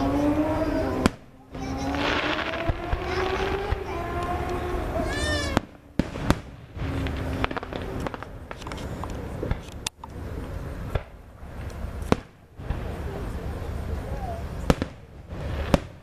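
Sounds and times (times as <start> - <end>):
fireworks bursting: 0.0 - 16.0
steady background noise: 0.0 - 16.0.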